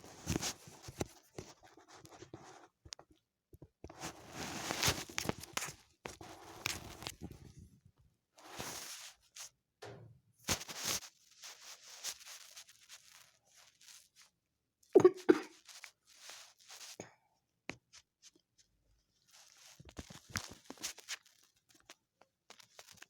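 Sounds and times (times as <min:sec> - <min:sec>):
kittens rustling and scratching: 0:00.0 - 0:07.8, 0:08.4 - 0:09.6, 0:10.4 - 0:14.4, 0:15.5 - 0:17.0, 0:17.7 - 0:23.0.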